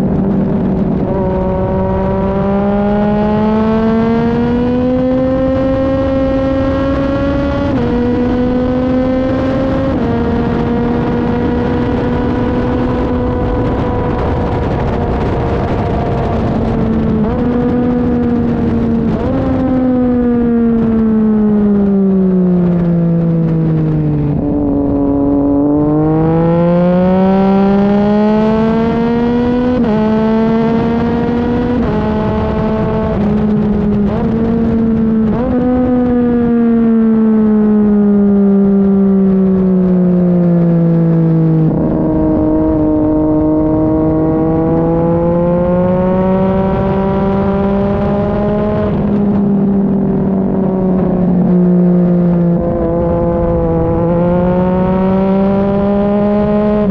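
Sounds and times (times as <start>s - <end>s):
motorcycle engine at speed: 0.0s - 56.9s
wind rush: 0.0s - 56.9s.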